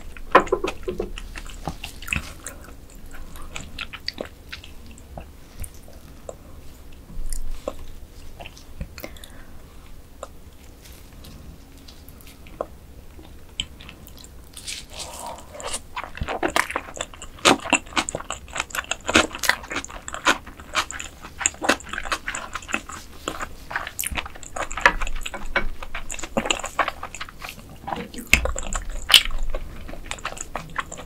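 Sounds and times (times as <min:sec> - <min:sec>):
biting and chewing: 0:00.0 - 0:09.3, 0:10.2 - 0:31.0.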